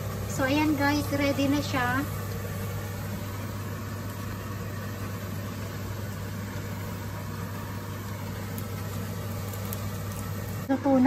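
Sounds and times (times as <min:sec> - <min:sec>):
cakes sizzling in hot oil: 0:00.0 - 0:11.0
constant low hum: 0:00.0 - 0:11.0.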